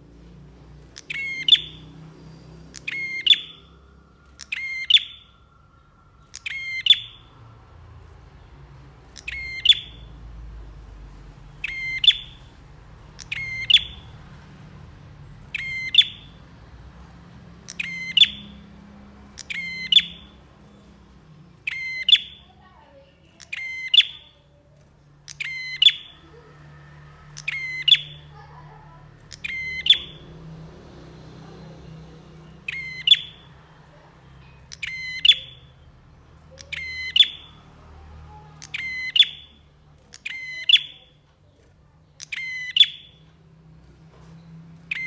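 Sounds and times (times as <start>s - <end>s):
bird chirping calls: 0.0s - 45.0s.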